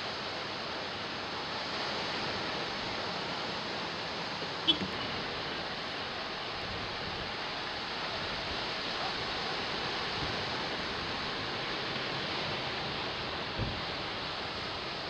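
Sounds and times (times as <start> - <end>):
ocean surf rushing: 0.0 - 15.0
wind: 0.0 - 15.0.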